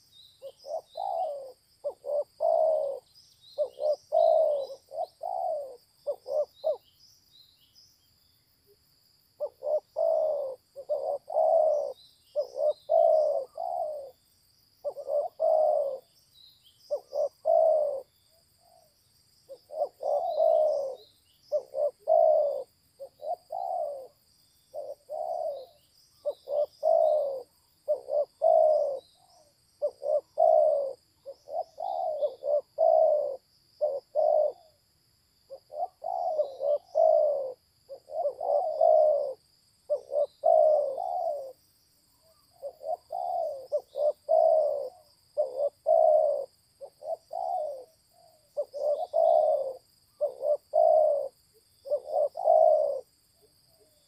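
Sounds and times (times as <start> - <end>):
dove cooing: 0.0 - 6.9, 9.4 - 14.2, 14.8 - 16.2, 16.9 - 34.8, 35.5 - 41.6, 42.2 - 54.0
small birds chirping: 0.0 - 34.8, 35.4 - 54.0.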